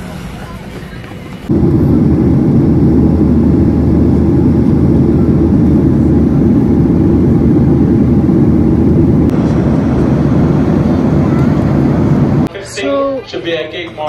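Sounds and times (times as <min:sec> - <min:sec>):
jet engines and airflow rumble: 0:01.1 - 0:12.5.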